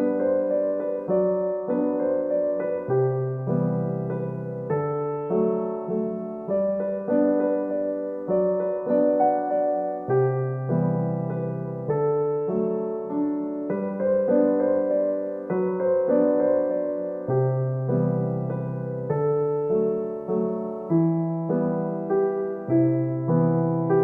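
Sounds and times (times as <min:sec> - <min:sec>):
soft piano chords: 0:00.0 - 0:24.0.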